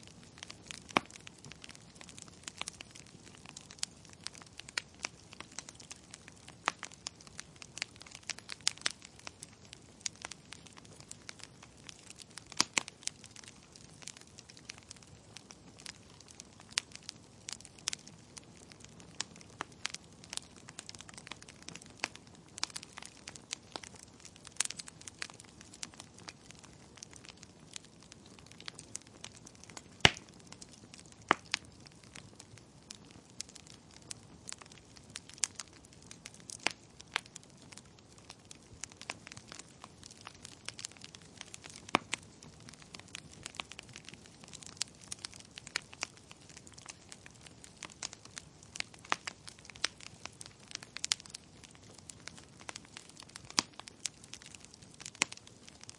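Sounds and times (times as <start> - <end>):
logs crackling and popping: 0.0 - 55.9
soft steady fire hiss: 0.0 - 55.9.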